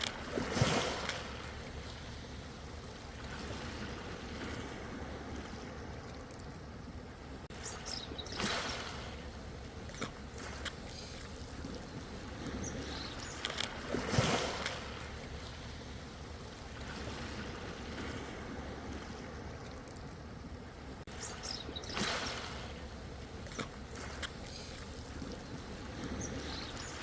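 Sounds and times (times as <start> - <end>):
ocean waves washing in: 0.0 - 27.0
small water splashes: 0.0 - 27.0.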